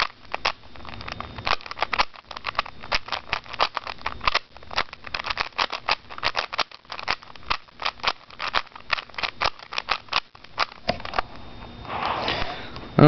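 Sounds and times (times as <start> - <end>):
puzzle cube plastic clicks: 0.0 - 11.2.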